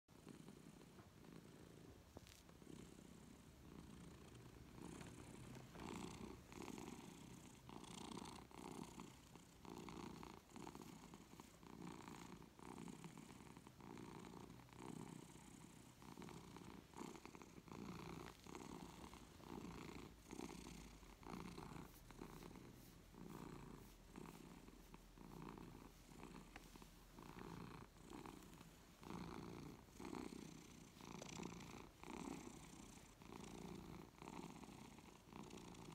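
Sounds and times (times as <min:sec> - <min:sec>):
cat purring: 0:00.1 - 0:35.9.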